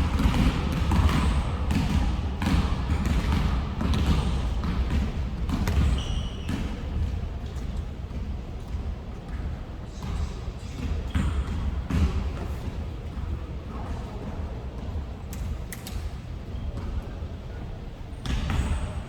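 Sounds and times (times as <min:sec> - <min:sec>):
basketballs bouncing on gym floor: 0:00.0 - 0:16.0, 0:16.6 - 0:17.2, 0:18.1 - 0:19.0.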